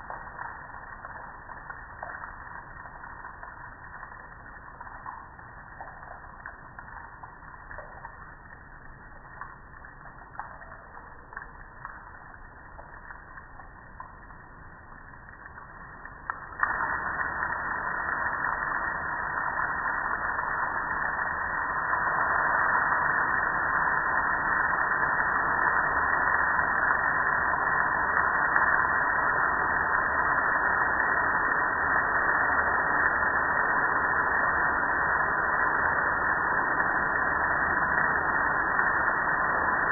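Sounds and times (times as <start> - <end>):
water dripping: 0.0 - 39.9.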